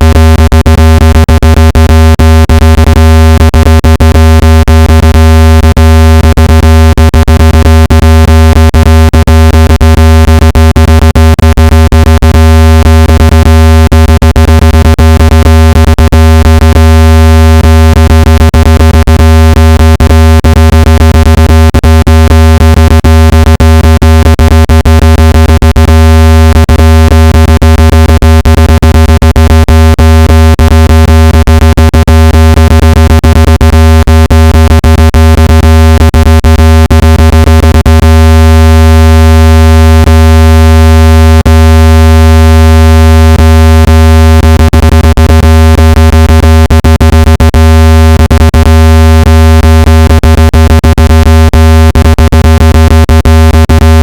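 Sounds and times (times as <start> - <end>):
low-pitched buzzing tone: 0.0 - 51.6.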